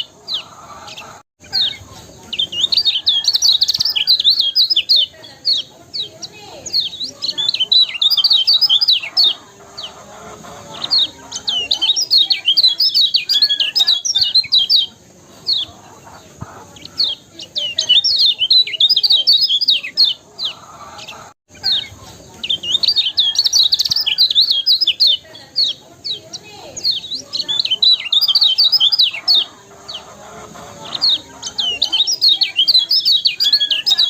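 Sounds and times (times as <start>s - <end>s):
bird singing rapid high chirps: 0.0s - 34.0s.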